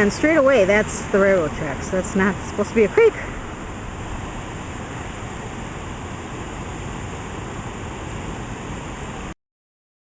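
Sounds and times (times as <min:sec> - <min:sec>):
floodwater rushing: 0:00.0 - 0:09.4.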